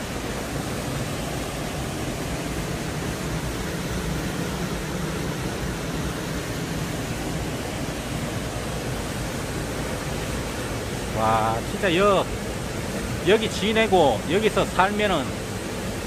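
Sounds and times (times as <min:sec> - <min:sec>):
stream water over stones: 0:00.0 - 0:16.0
waterfall pouring into pool: 0:00.0 - 0:16.0.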